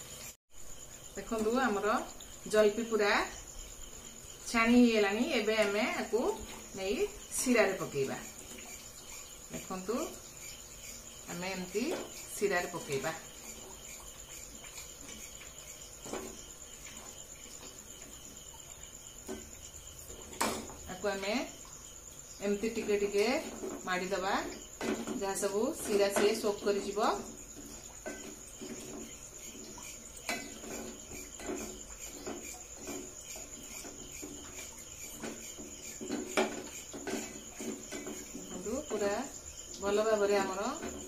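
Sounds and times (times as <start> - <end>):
batter frying in hot oil: 0.0 - 41.0
crickets chirping: 0.0 - 41.0.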